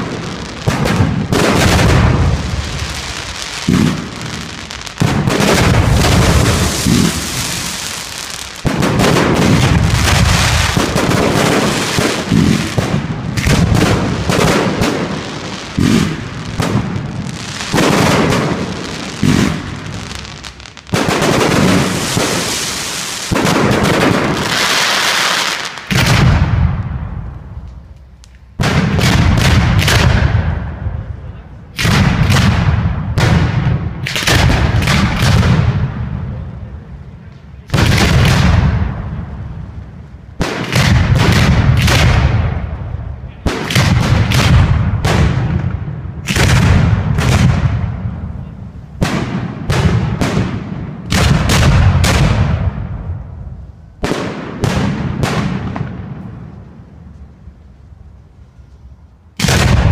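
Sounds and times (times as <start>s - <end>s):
firework bursts: 0.0s - 59.9s
fireworks crackling and fizzing: 0.0s - 59.9s.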